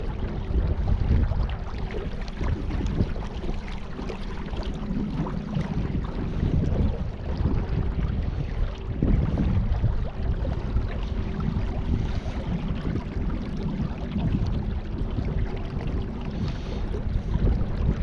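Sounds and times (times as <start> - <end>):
faint steady hum: 0.0 - 18.0
water noise: 0.0 - 18.0
wind rumble on microphone: 0.0 - 18.0.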